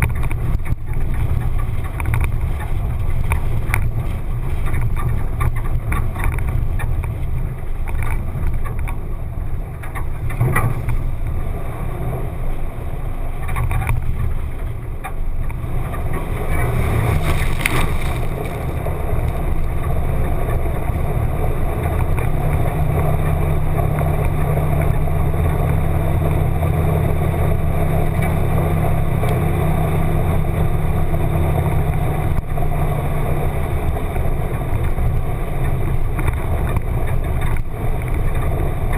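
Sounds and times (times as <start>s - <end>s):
muffled car engine running: 0.0s - 38.9s.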